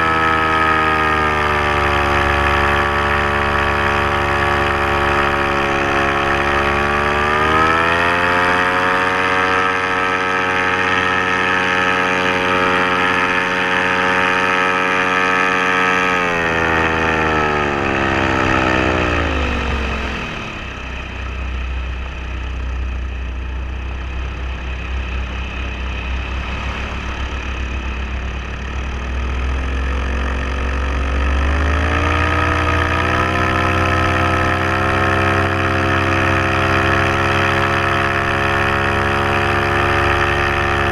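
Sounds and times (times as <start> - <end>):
paramotor engine and propeller: 0.0 - 40.9.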